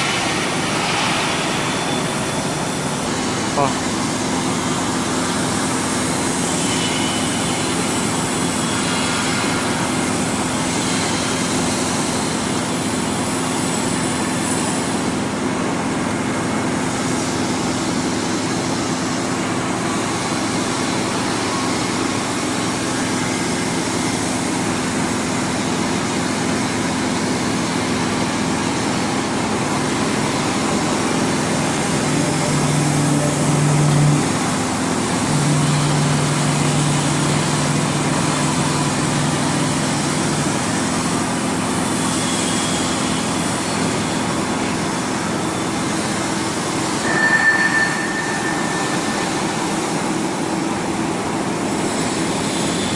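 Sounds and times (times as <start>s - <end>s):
hydraulic pump and motor humming: 0.0s - 52.9s.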